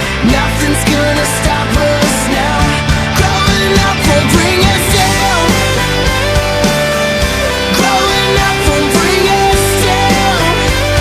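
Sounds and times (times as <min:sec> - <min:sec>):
rock song with singing: 0:00.0 - 0:11.0.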